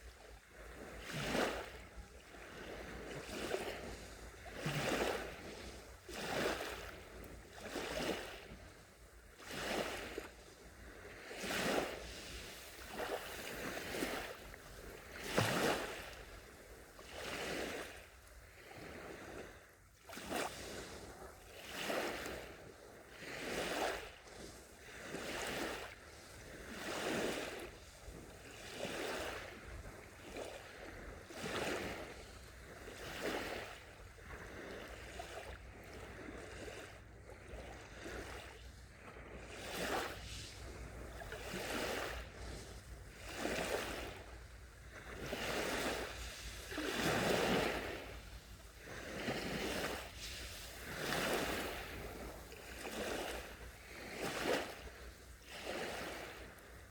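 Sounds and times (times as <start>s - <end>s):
small waves washing onto beach: 0.0s - 56.9s.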